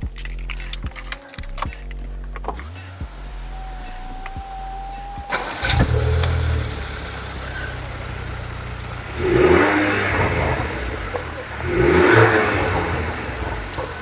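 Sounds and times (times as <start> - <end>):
car engine idling: 0.0 - 14.0
car engine revving: 1.8 - 14.0.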